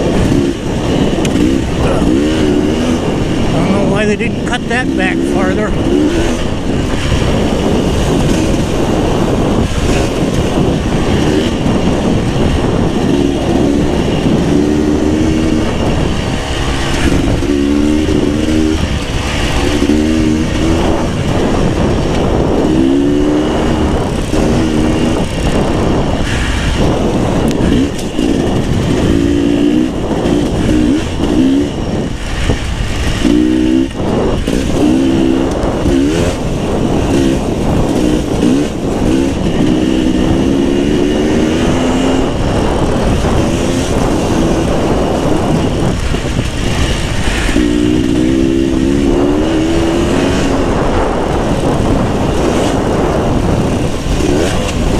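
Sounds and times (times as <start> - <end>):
dirt bike engine revving: 0.0 - 54.9
steady rush of noise: 0.0 - 54.9.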